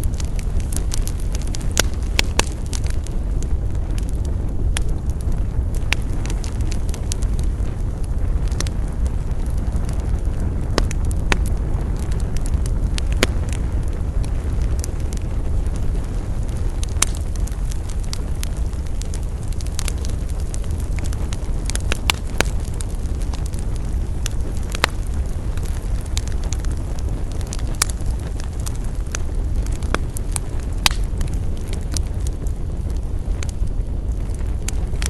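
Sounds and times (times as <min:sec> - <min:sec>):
low rumble of flame: 0:00.0 - 0:35.0
wood crackling and popping: 0:00.0 - 0:35.0.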